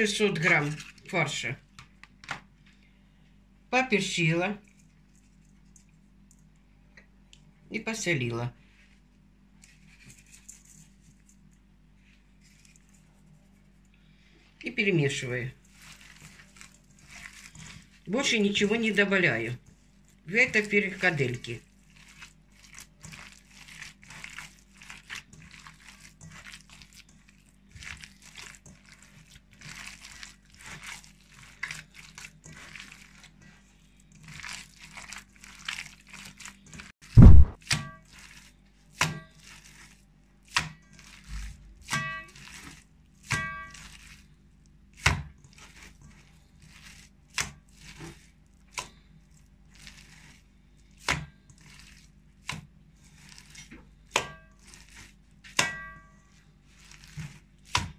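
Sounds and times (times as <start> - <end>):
hands kneading wet mince: 0.0 - 3.0, 3.8 - 57.9.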